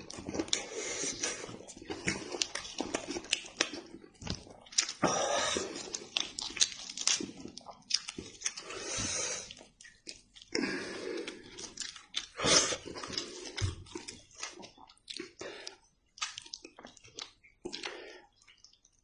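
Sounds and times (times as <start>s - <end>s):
slurping: 0.0s - 15.8s
wet chewing and smacking: 0.0s - 19.0s.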